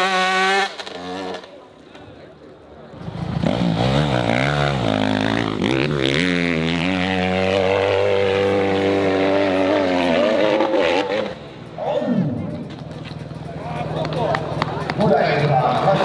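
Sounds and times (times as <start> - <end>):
dirt bike engine revving: 0.0 - 1.7, 3.0 - 16.0.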